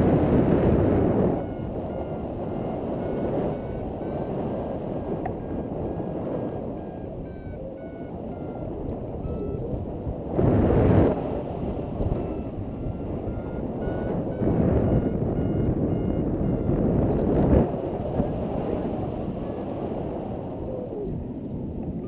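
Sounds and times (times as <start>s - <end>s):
variometer short beeps: 0.0s - 19.3s
wind buffeting microphone: 0.0s - 22.0s.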